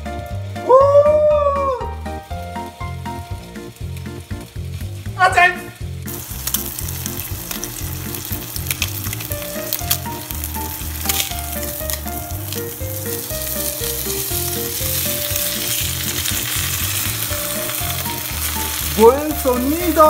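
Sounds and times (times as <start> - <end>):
bacon sizzling in frying pan: 0.0 - 20.0.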